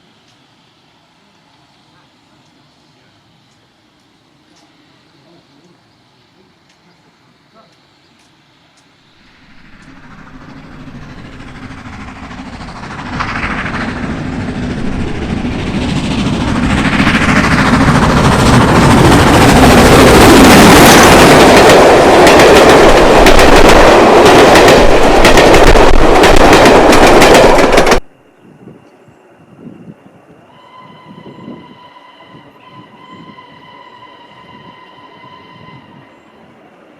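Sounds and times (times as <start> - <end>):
steam train passing: 0.0 - 36.9.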